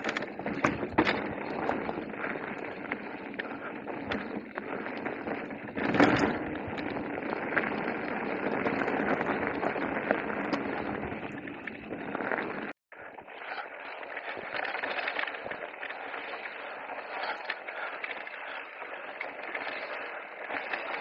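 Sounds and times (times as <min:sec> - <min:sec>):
bike rattling and clicking: 0:00.0 - 0:21.0
bike tyres over loose stone: 0:00.0 - 0:21.0.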